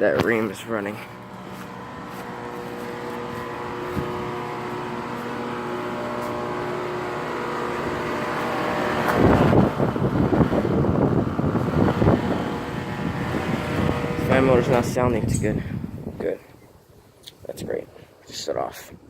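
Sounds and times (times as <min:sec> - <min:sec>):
air conditioner condenser humming: 0:00.0 - 0:16.4
fan air buffeting microphone: 0:00.0 - 0:16.5.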